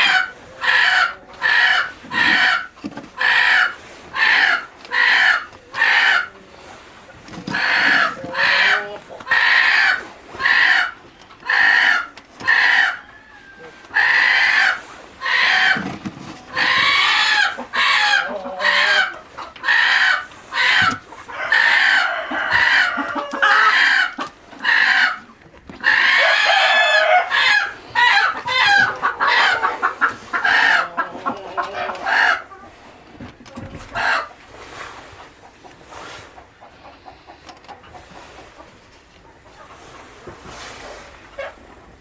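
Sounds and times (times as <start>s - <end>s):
chickens calling: 0.0s - 42.0s.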